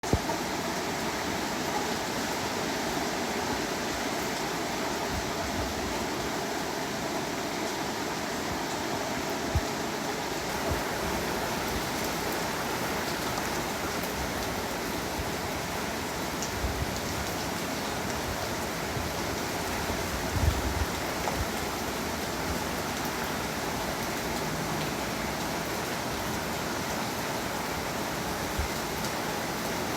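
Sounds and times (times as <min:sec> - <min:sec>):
heavy rain and wind rushing: 0:00.0 - 0:29.9.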